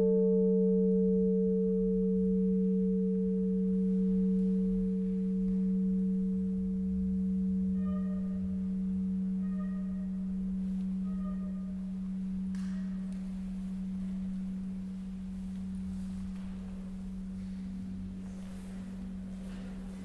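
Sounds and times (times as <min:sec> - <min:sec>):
bronze bell humming: 0:00.0 - 0:20.0
faint higher ring: 0:00.0 - 0:20.0.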